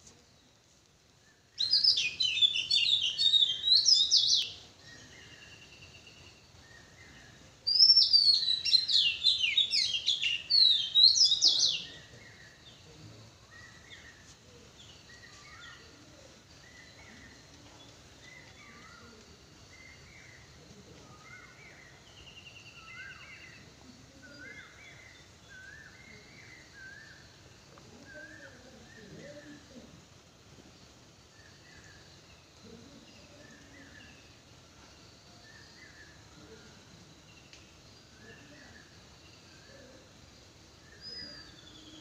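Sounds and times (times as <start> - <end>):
birds singing rapid chirping trills: 0.0 - 42.0.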